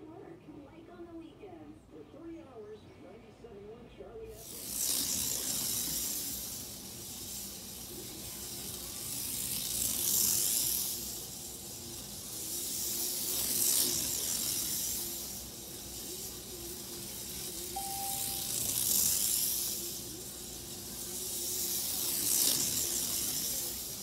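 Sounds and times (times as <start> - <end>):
slot car motor whine: 4.5 - 24.0.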